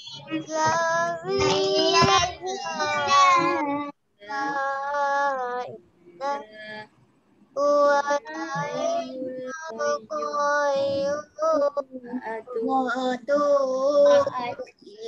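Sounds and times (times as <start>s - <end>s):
child singing slow melody: 0.0s - 6.9s, 7.6s - 15.0s.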